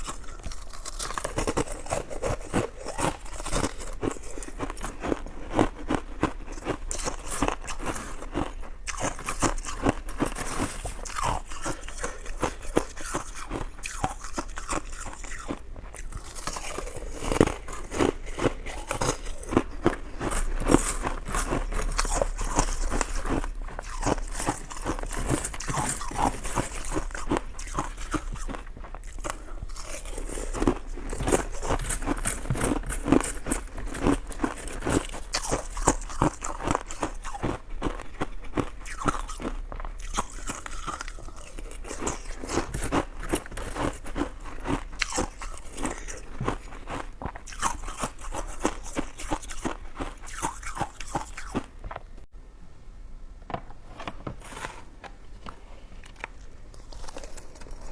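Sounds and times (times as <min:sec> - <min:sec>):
rice cake being bitten and chewed: 0:00.0 - 0:52.1, 0:55.4 - 0:57.9.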